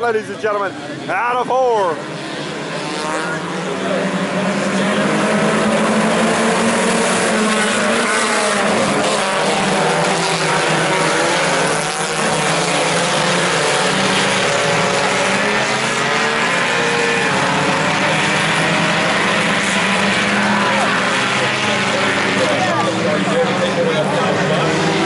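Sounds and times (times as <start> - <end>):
race car engines at full throttle: 0.0 - 25.0.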